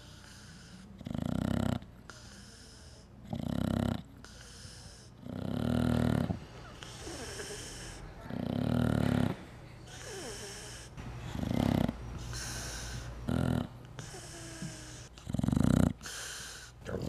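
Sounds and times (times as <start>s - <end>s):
dog snoring: 0.0s - 17.0s.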